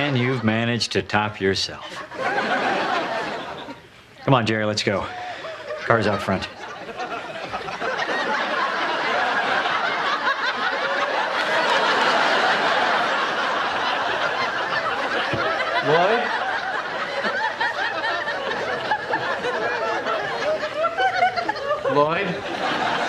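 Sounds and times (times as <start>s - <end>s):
studio audience laughing: 0.0s - 0.7s, 1.8s - 4.0s, 5.1s - 23.0s.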